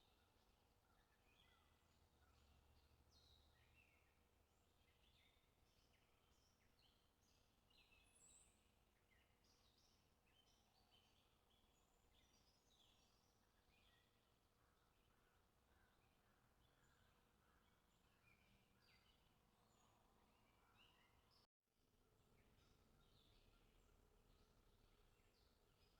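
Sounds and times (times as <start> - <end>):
faint birds chirping: 0.0 - 25.9.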